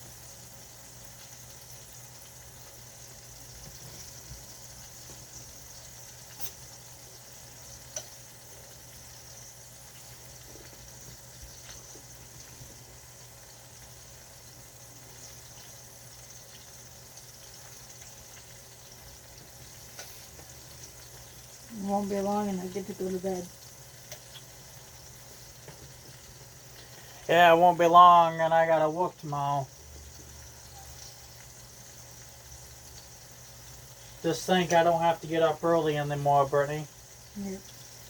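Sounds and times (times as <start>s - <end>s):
food bubbling on a stovetop: 0.0s - 38.0s.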